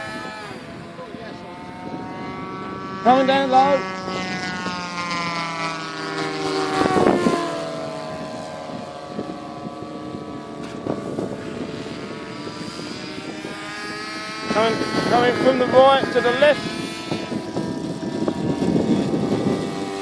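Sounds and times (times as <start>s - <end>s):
model airplane engines flying by: 0.0s - 20.0s.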